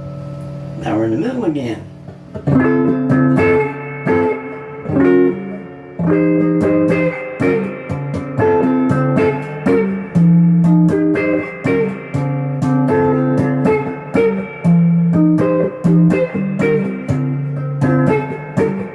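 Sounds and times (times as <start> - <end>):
overdriven electric guitar chords: 0.0 - 0.8, 1.9 - 18.9.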